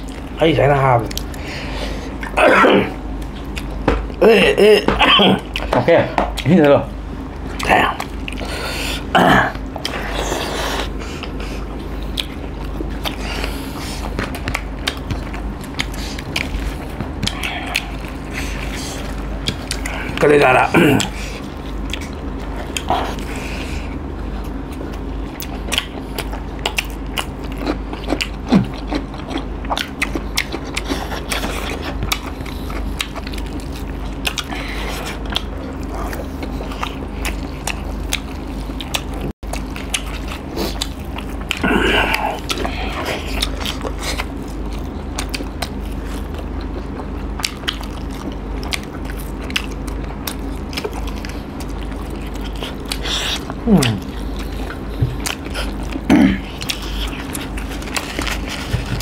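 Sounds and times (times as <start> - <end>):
people chewing food: 0.0 - 59.0
steady low hum: 0.0 - 59.0.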